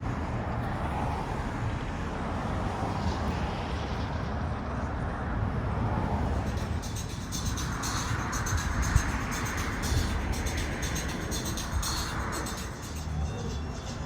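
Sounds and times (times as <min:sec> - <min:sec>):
low rumbling vehicle noise: 0:00.0 - 0:14.0.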